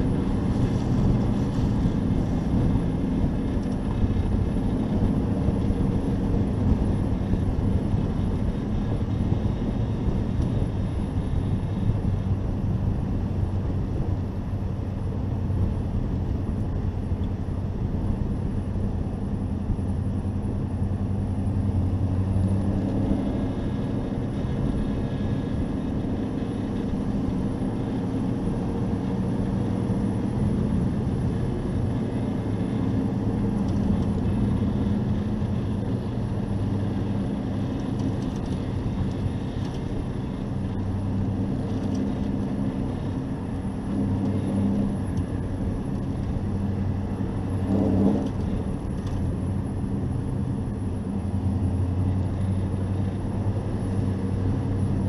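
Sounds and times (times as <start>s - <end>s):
race truck engine running: 0.0s - 55.0s
wind and road noise: 0.0s - 55.0s.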